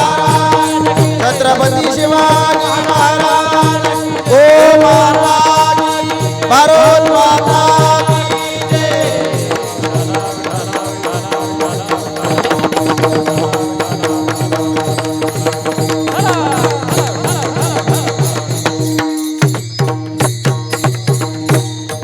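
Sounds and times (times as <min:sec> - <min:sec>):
drums fast steady beat: 0:00.0 - 0:22.0.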